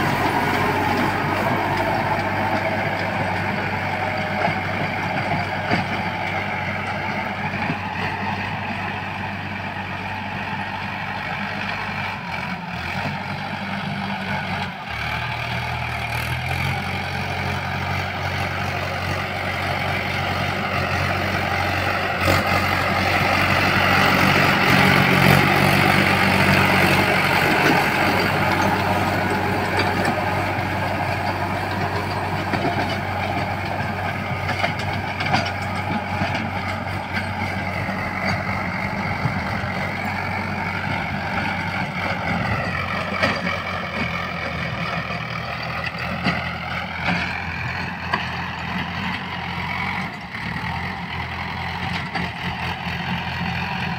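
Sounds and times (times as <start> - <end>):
rotavator churning soil: 0.0 - 9.3, 16.2 - 53.9
tractor diesel engine running: 0.0 - 53.9.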